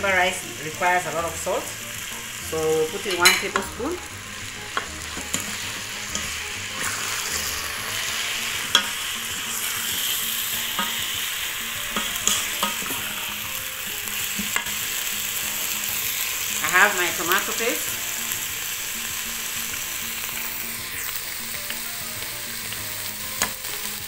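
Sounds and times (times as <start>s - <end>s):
chicken sizzling: 0.0s - 24.0s.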